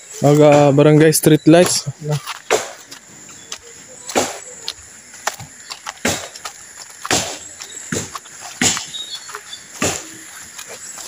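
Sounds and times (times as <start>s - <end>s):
footsteps on wet leaves and twigs: 0.0s - 11.0s.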